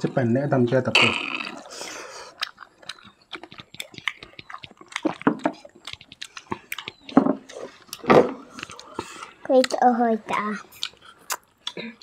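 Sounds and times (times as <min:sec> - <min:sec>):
wet chewing smacks: 0:01.4 - 0:09.8, 0:10.7 - 0:12.0.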